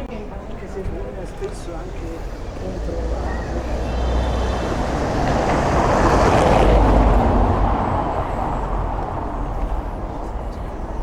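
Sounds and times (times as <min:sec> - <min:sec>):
vehicle passing by: 0:01.8 - 0:11.0.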